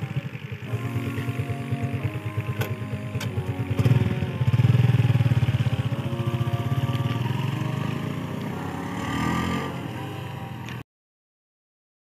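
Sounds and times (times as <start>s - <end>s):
motorcycle engine riding off: 0.0s - 10.8s.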